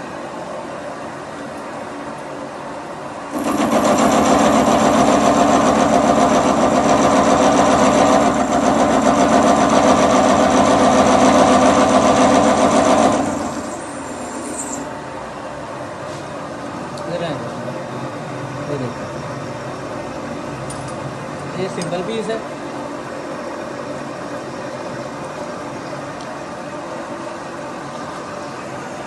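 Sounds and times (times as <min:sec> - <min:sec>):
milling machine hum: 0:00.0 - 0:29.0.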